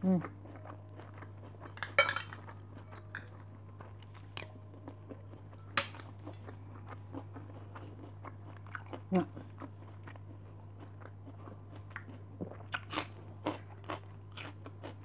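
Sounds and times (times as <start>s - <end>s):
chewing crunchy food: 0.1s - 15.0s.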